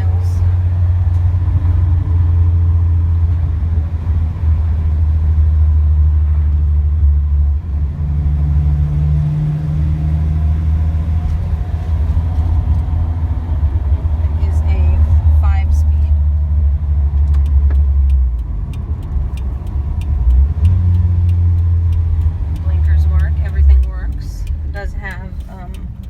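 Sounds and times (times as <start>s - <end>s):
engine drone: 0.0s - 26.0s
road noise: 0.0s - 26.0s.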